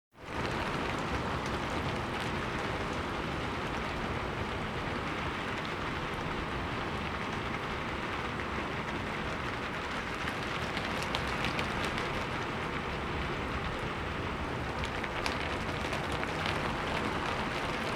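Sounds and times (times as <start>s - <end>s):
faint raindrop ticks: 0.2s - 17.9s
steady rain hiss: 0.2s - 17.9s.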